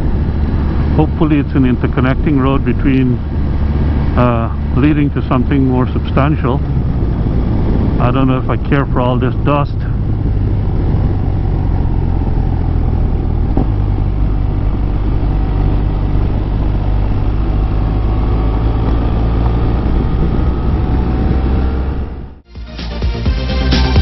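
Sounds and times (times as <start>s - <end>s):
motorcycle engine running: 0.0s - 22.5s
wind and road noise: 0.0s - 22.5s.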